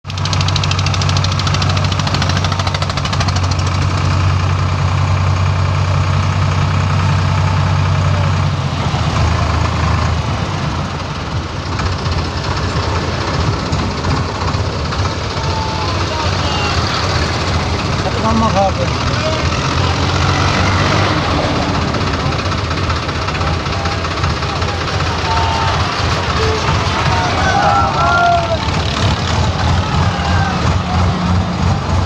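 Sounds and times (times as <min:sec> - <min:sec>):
tractor diesel engine knocking: 0:00.0 - 0:32.0.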